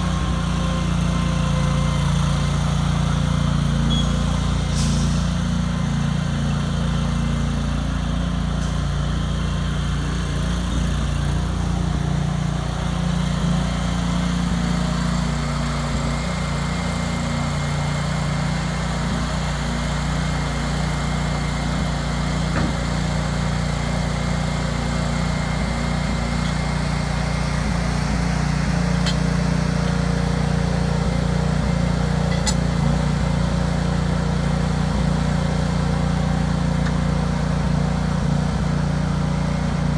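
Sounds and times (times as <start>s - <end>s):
gas engine running steadily: 0.0s - 39.9s.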